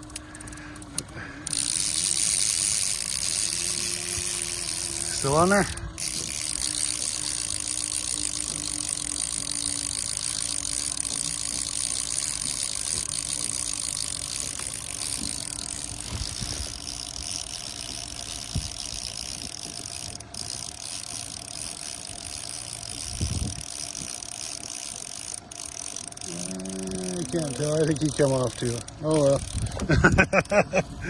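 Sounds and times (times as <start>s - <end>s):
fishing reel ratcheting whir: 0.0s - 30.8s
boat motor running: 0.0s - 31.0s.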